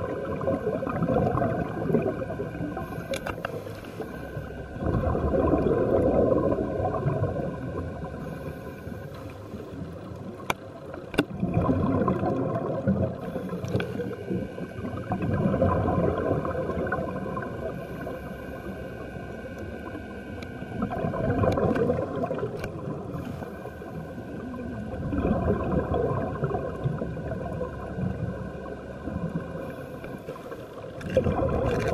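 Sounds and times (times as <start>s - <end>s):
underwater regulator bubbles gurgling: 0.0s - 31.9s.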